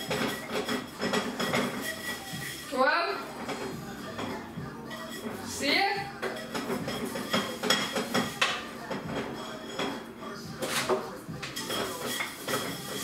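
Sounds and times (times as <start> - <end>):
dishes and cutlery clinking: 0.0 - 13.0.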